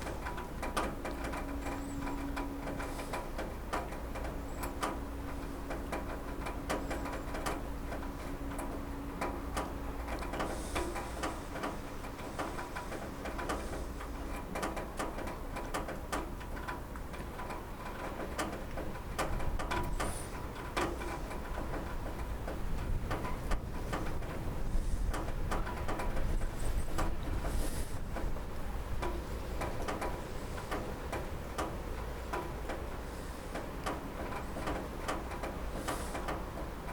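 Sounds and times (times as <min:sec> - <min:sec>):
rain on a roof: 0:00.0 - 0:36.9.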